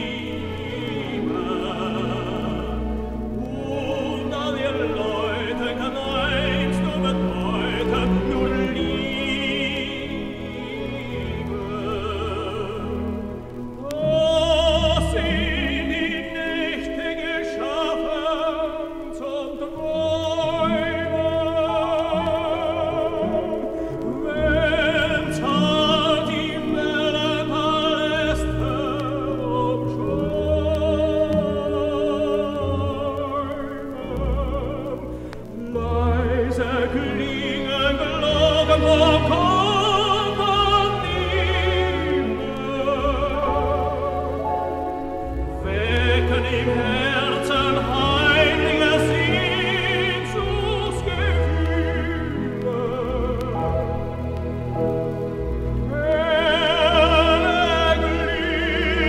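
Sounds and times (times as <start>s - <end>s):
orchestra playing: 0.0s - 59.0s
person singing with vibrato: 0.0s - 59.0s.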